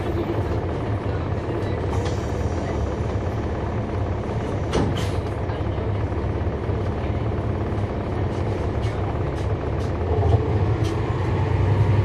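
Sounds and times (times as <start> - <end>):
diesel bus engine rumble: 0.0 - 12.0.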